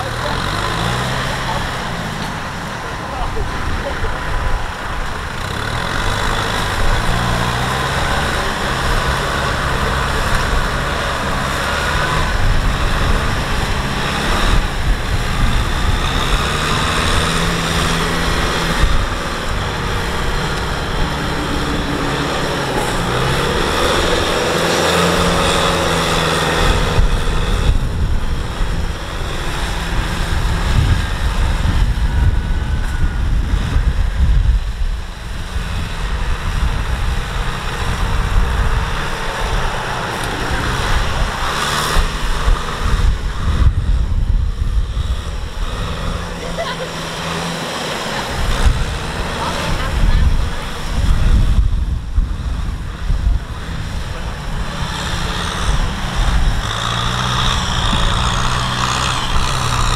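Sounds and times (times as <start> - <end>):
rotary tiller churning mud: 0.0 - 34.6, 35.2 - 59.9
tractor diesel engine under load: 0.0 - 59.9.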